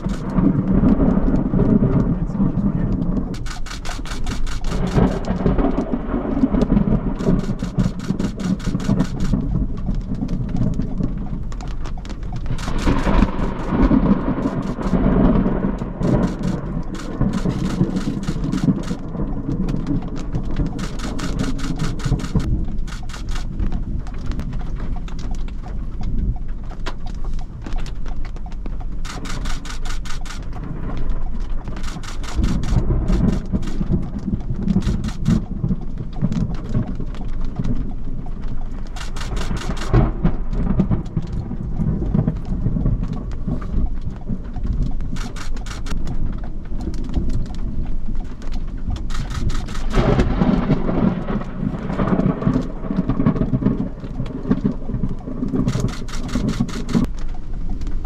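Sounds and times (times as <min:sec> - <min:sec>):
rain hitting car windshield: 0:00.0 - 0:58.0
thunder rumbling: 0:00.0 - 0:58.0.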